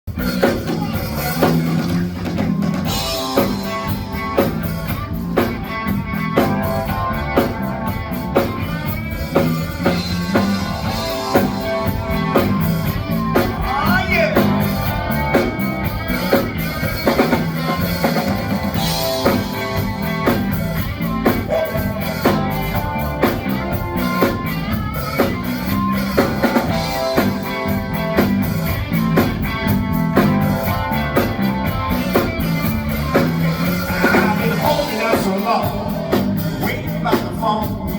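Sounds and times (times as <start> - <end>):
drum kit steady beat: 0.0 - 37.9
live rock band: 0.0 - 37.9.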